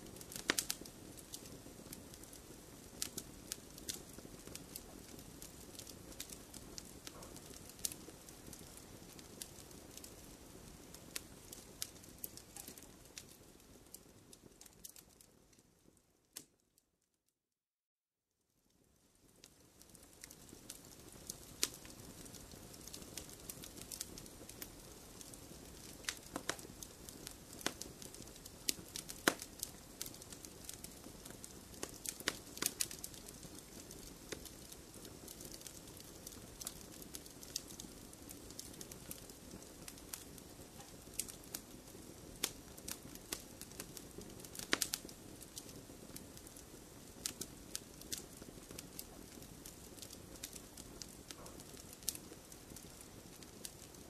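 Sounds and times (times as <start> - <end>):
hiss of flames: 0.0 - 15.0, 19.6 - 54.0
wood fire crackling: 0.0 - 16.7, 18.7 - 54.0.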